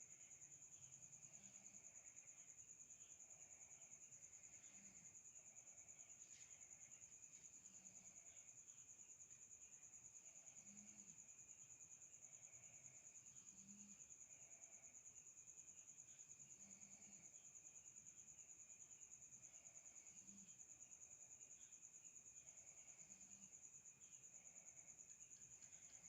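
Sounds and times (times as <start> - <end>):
cricket trill: 0.0 - 26.0.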